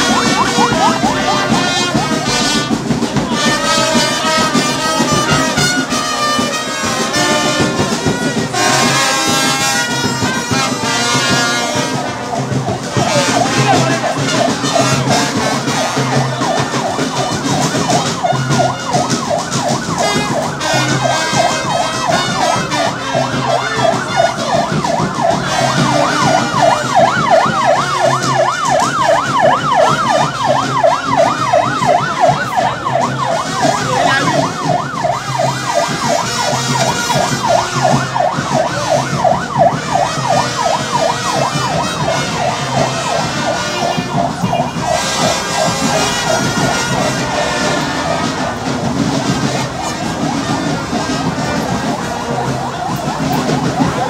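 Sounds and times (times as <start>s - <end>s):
vehicle siren wailing and yelping: 0.0s - 54.0s.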